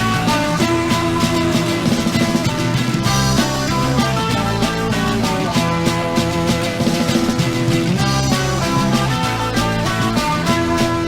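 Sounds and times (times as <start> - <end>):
punk rock band playing: 0.0 - 11.0.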